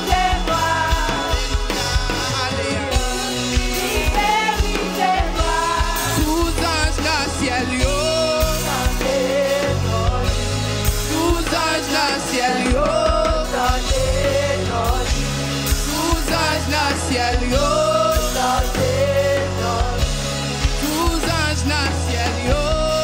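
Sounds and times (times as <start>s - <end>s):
woman singing gospel: 0.0s - 20.2s
live band playing: 0.0s - 23.0s.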